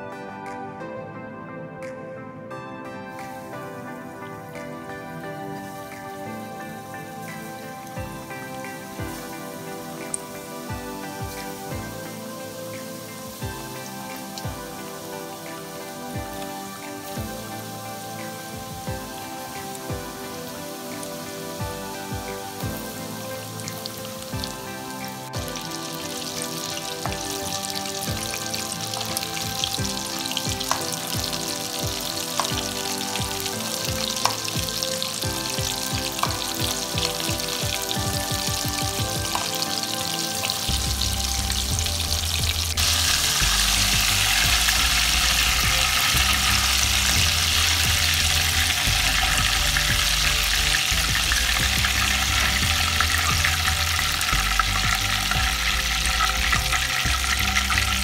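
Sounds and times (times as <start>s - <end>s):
chicken sizzling in hot oil: 5.4s - 58.0s.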